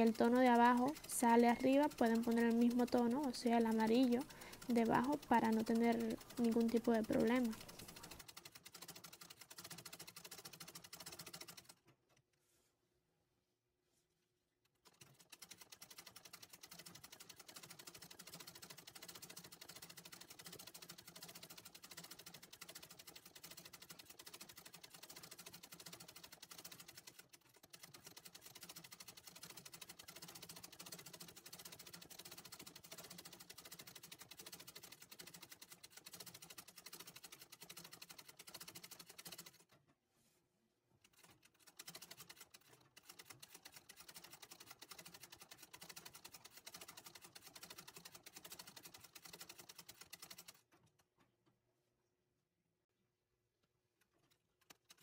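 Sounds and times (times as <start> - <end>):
sewing machine needle clatter: 0.0 - 12.0, 14.6 - 39.9, 41.0 - 51.3, 53.9 - 55.0.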